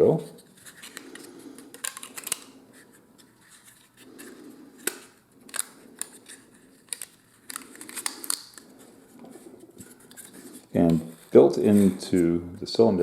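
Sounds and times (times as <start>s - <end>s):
soft rustling: 0.0s - 12.4s.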